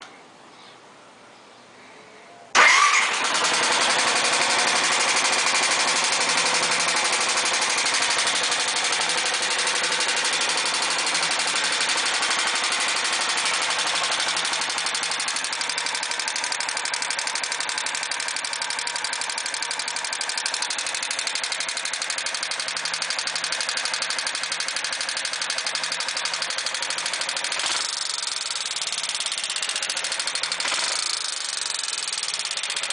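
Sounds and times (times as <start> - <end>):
fast even engine ticking: 2.6 - 32.9
motorcycle engine starting and idling: 2.6 - 32.9.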